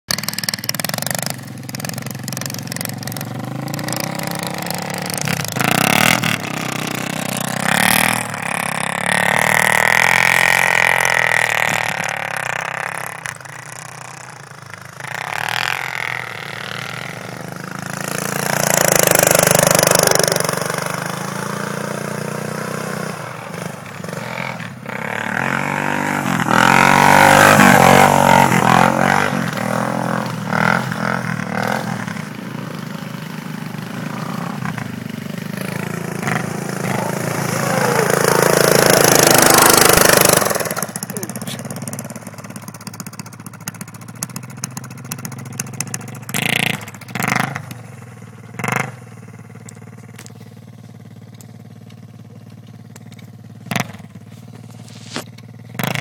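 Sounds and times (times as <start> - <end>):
atv engines revving: 0.1 - 56.0.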